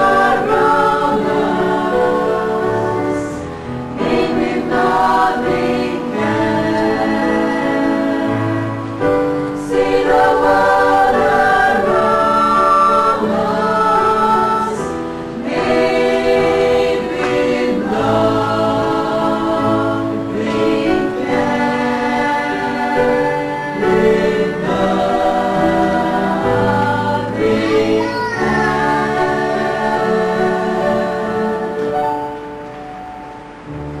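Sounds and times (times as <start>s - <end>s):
church choir singing in harmony: 0.0s - 34.0s.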